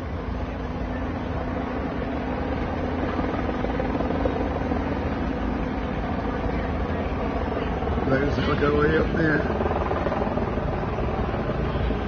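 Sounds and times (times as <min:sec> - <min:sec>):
helicopter rotor rumble: 0:00.0 - 0:12.0.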